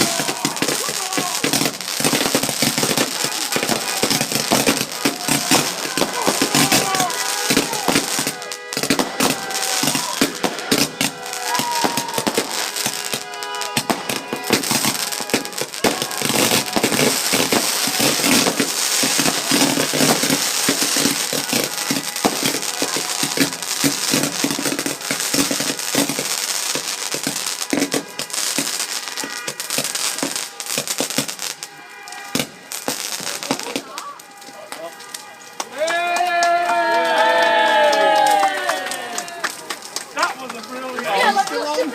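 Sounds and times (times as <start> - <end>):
firework cake crackling bangs: 0.0 - 41.9.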